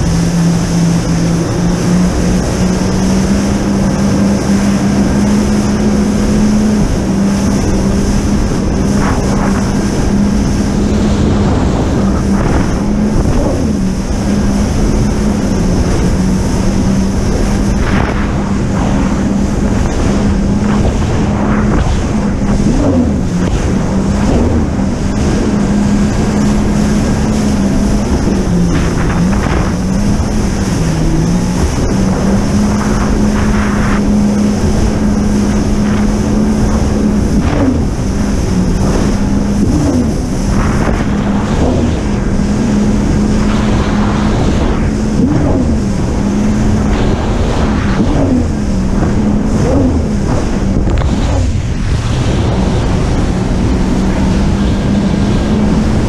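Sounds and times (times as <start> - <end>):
jet ski engine running: 0.0 - 56.0
water splashing: 0.0 - 56.0
wind buffeting microphone: 0.0 - 56.0.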